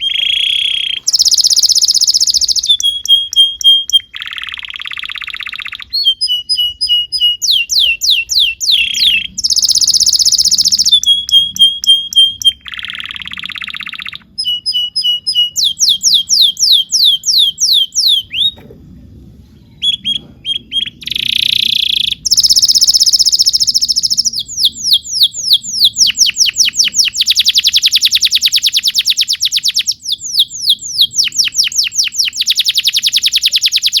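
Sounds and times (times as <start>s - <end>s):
canary singing: 0.0s - 18.6s, 19.8s - 34.0s.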